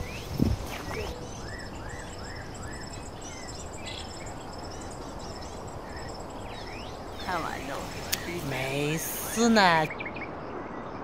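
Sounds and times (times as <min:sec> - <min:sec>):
insects chirping in trills: 0:00.0 - 0:10.7.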